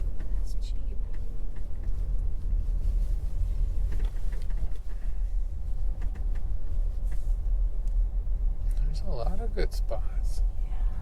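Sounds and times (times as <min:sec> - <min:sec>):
creaks and rattles: 0:00.0 - 0:09.5
van driving slowly: 0:00.0 - 0:11.0.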